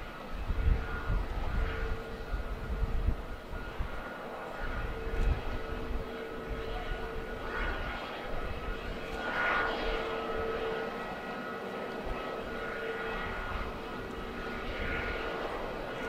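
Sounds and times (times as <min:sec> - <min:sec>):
jet engines whining at taxi power: 0:00.0 - 0:16.0.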